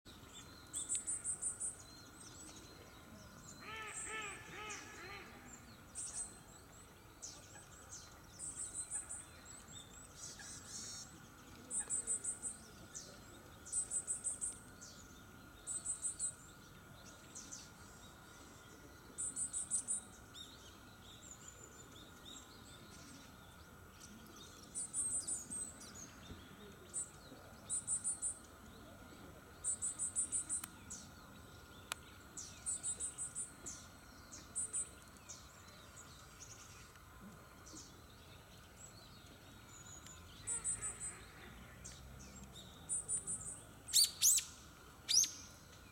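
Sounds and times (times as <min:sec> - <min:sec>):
songbirds twittering: 0:00.1 - 0:45.9.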